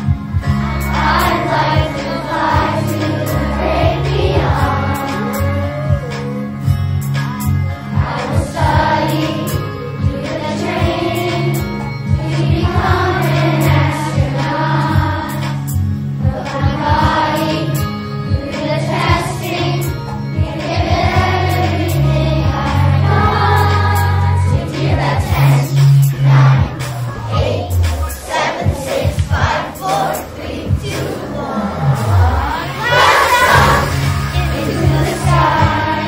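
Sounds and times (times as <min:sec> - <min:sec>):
instrumental backing track: 0:00.0 - 0:31.3, 0:31.9 - 0:36.0
children's choir singing: 0:00.0 - 0:36.0.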